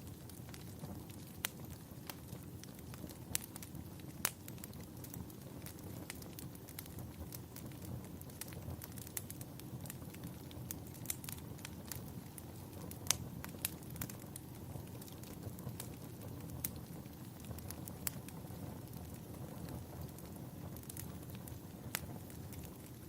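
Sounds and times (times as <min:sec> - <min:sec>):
low fire rumble: 0:00.0 - 0:23.0
sharp fire pops: 0:00.0 - 0:23.0
wood fire crackling: 0:00.0 - 0:23.0.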